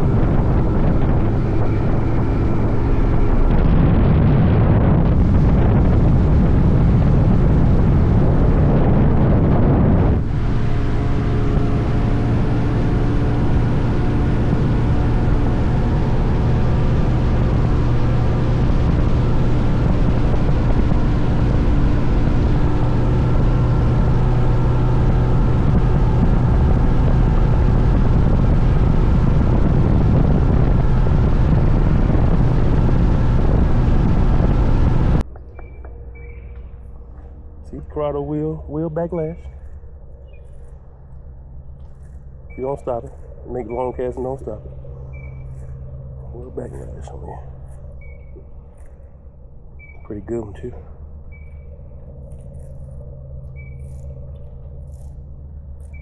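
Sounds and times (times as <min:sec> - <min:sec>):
outboard motor running: 0:00.0 - 0:56.0
wind on microphone: 0:00.0 - 0:56.0.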